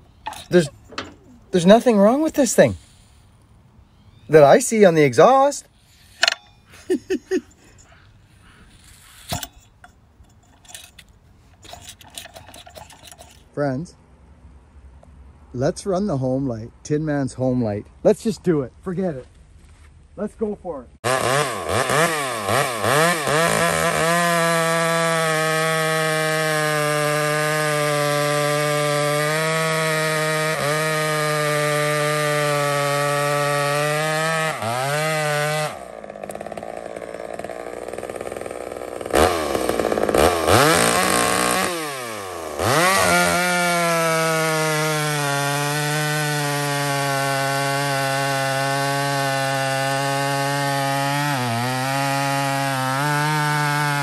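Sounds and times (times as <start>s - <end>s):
chainsaw revving and cutting log: 0.0s - 3.0s, 4.3s - 13.4s, 21.0s - 54.0s.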